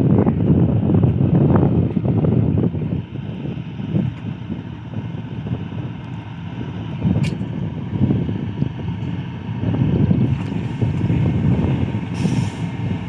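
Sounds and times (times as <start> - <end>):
locomotive engine rumble: 0.0 - 13.0
wind on microphone: 0.0 - 13.0.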